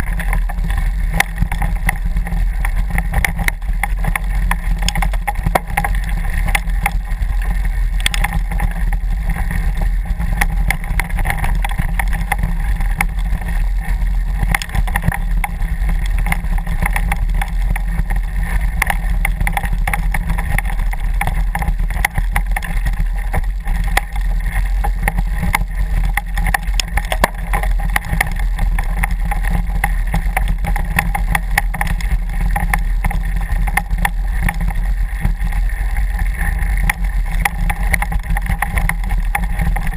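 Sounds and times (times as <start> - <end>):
bike rattling over ground: 0.0 - 39.9
wind rumble on microphone: 0.0 - 39.9.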